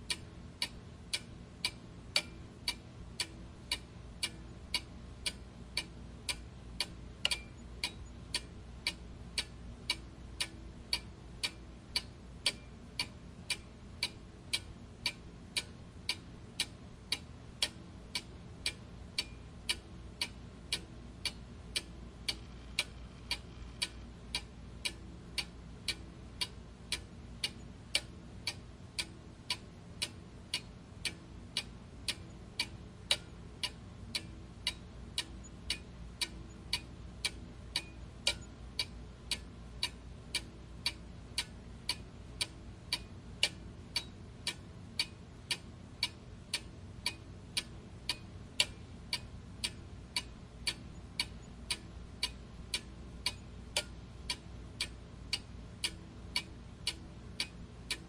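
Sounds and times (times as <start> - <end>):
faint low hum: 0.0 - 58.0
mechanical clock ticking: 0.1 - 58.0.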